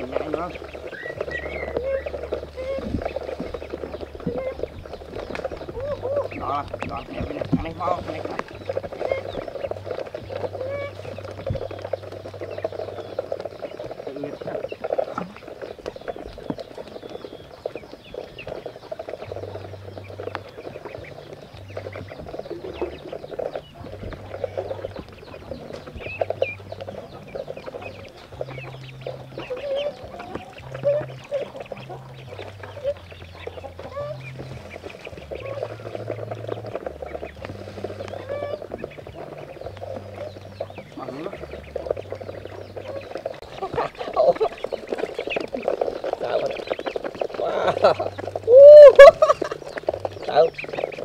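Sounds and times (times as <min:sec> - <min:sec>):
poultry clucking: 0:00.0 - 0:51.0.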